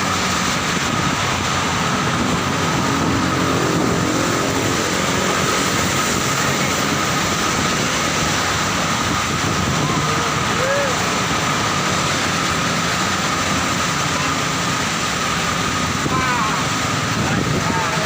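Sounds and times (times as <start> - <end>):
rain: 0.0 - 18.0
road traffic passing: 0.0 - 18.0.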